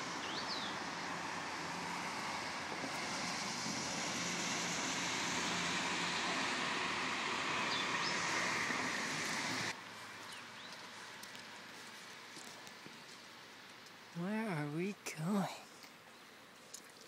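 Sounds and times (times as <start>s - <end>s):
highway traffic hiss: 0.0s - 17.0s.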